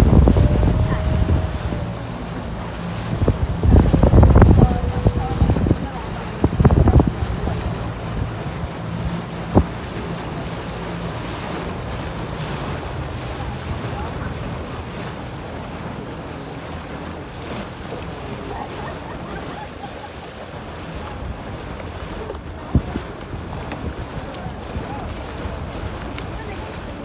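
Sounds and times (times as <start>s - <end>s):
sea water washing: 0.0s - 27.0s
wind buffeting microphone: 0.0s - 27.0s.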